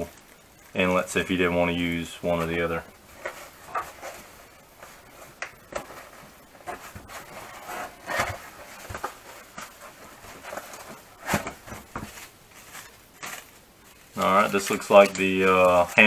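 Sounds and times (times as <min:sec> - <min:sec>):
packaging rubbing and rustling: 0:00.0 - 0:16.0.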